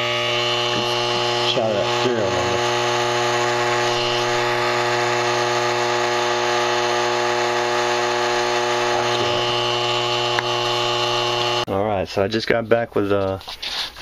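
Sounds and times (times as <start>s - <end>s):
buzzing electrical hum: 0.0s - 11.9s.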